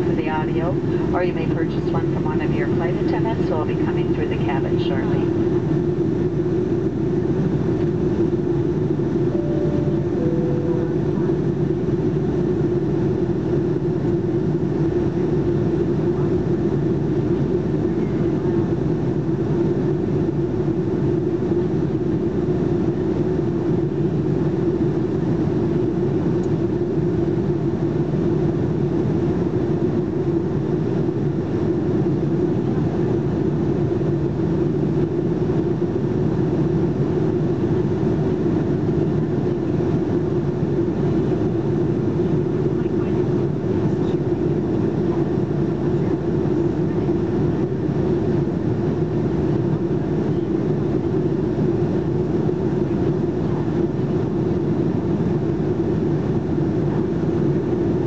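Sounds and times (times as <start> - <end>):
airplane cabin noise: 0.0 - 58.0
steady low hum: 0.0 - 58.0.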